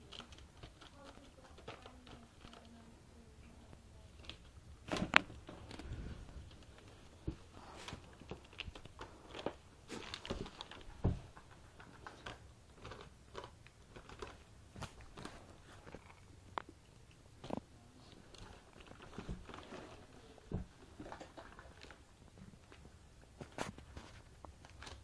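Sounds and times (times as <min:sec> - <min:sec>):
plastic wrap crinkling: 0:00.0 - 0:02.9, 0:04.0 - 0:16.3, 0:17.4 - 0:25.0.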